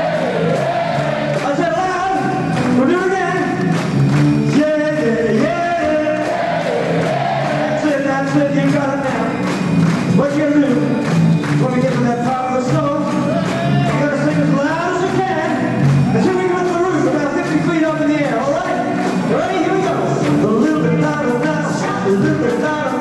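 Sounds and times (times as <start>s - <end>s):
rock and roll band playing: 0.0s - 23.0s
steady drum beat: 0.0s - 23.0s.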